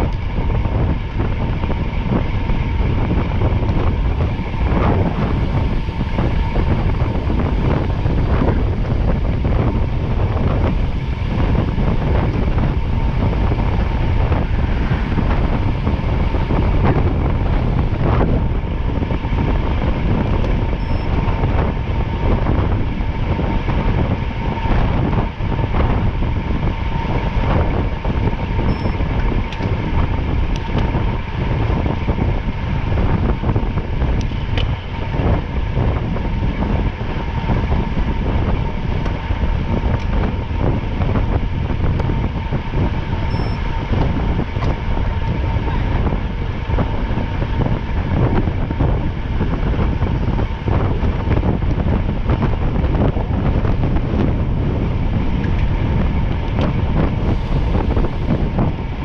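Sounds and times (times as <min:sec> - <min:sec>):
vehicle rumbling at speed: 0:00.0 - 0:59.0
wind buffeting microphone: 0:00.0 - 0:59.0.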